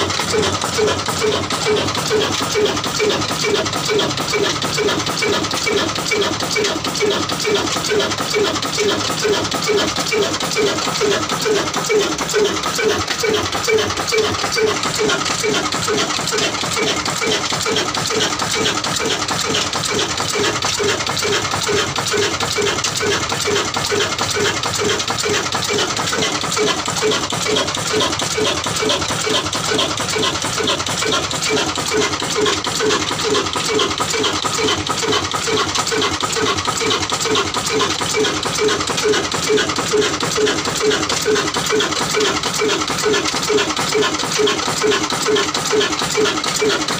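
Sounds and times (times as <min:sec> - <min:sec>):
diesel engine knocking: 0:00.0 - 0:46.9.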